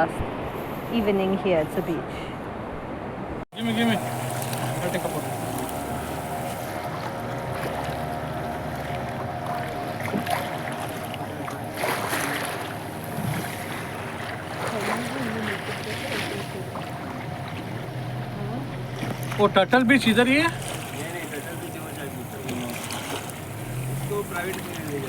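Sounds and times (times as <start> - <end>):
water noise: 0.0 - 25.0
wind: 0.0 - 25.0
boat motor running: 3.5 - 25.0.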